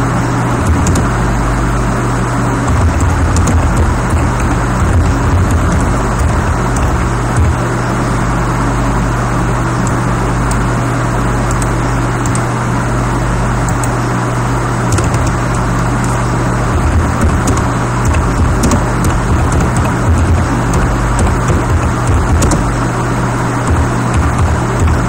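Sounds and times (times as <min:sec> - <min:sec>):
low hum: 0:00.0 - 0:25.0
steady loud noise: 0:00.0 - 0:25.0.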